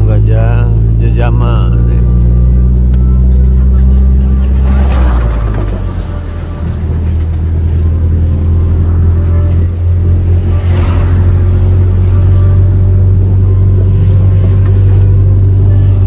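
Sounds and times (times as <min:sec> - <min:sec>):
road noise: 0:00.0 - 0:16.0
vehicle engine drone: 0:00.0 - 0:16.0.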